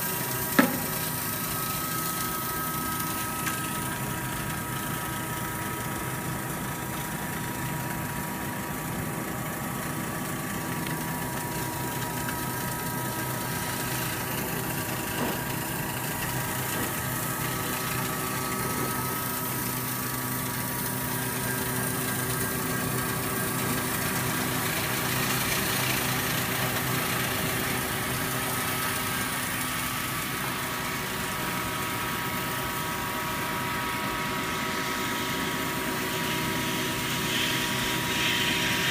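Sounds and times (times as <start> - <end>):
laser cutting machine hissing: 0.0 - 33.4, 34.0 - 38.9
steady humming tones: 0.0 - 38.9.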